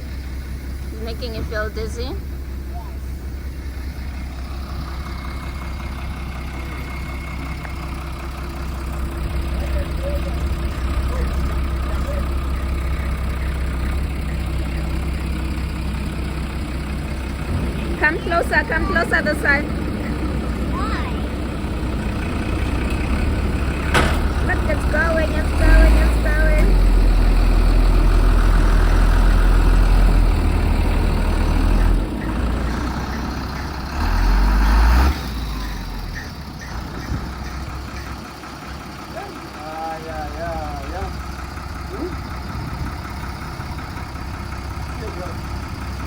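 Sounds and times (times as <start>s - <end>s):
heavy engines droning: 0.0s - 46.0s.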